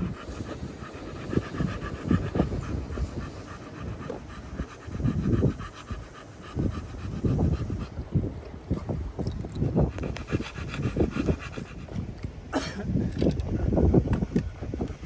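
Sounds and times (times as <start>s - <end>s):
dog panting: 0.0s - 12.2s, 14.0s - 15.0s.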